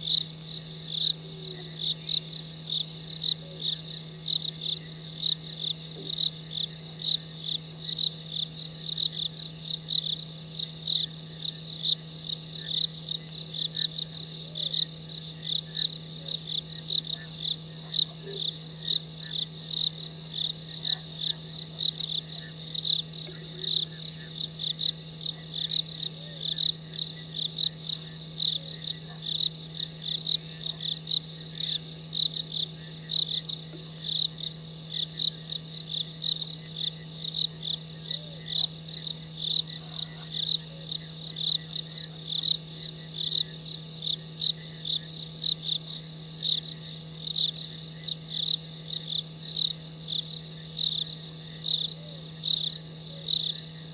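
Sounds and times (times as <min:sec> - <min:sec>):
cricket chirping: 0:00.0 - 0:53.9
steady low hum: 0:00.0 - 0:53.9.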